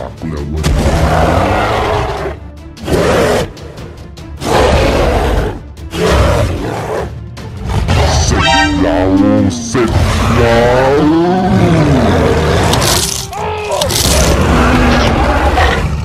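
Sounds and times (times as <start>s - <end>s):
background music: 0.0s - 16.0s
creature roaring and growling: 0.6s - 3.6s, 4.4s - 16.0s.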